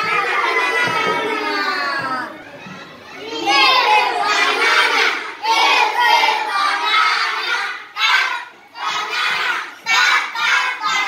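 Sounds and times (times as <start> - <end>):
children singing and chanting: 0.0 - 11.0.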